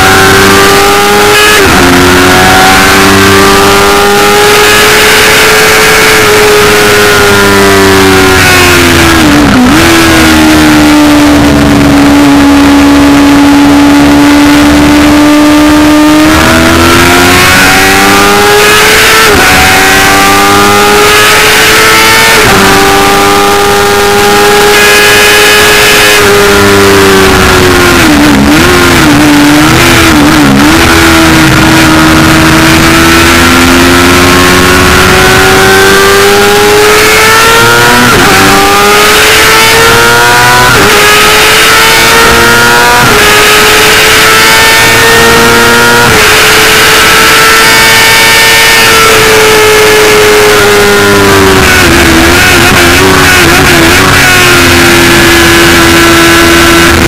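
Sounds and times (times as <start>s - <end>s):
racing engine changing gears: 0.0s - 57.0s.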